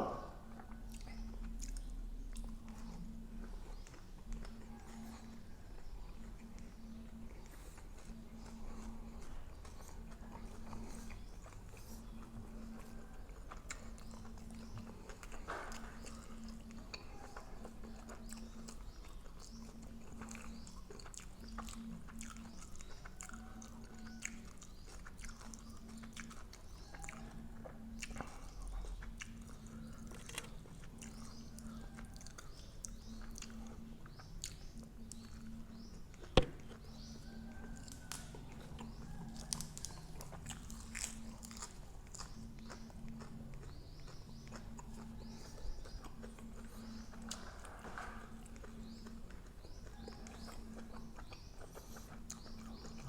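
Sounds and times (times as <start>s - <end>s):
faint low hum: 0.0s - 53.0s
person chewing food: 0.0s - 53.0s.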